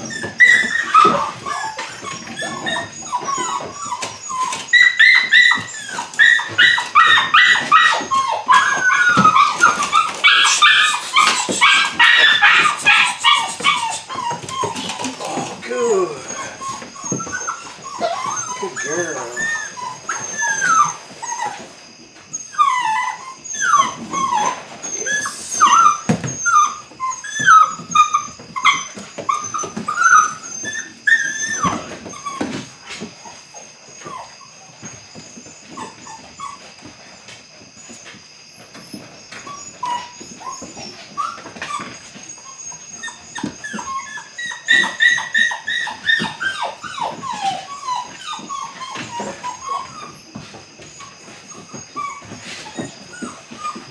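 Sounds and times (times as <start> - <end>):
puppy whining and yipping: 0.0 - 53.9.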